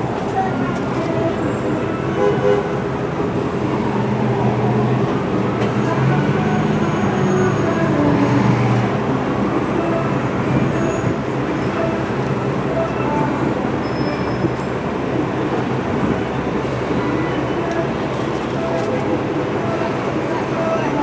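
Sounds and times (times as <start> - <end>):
vehicle traffic hum: 0.0 - 21.0.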